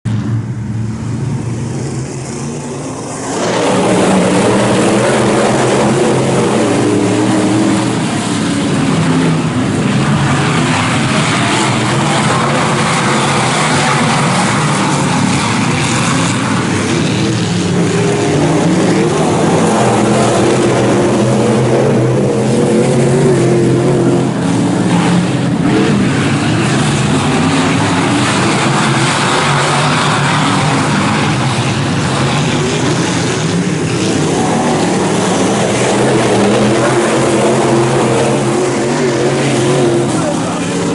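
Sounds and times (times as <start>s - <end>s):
race car engines: 0.0s - 40.9s.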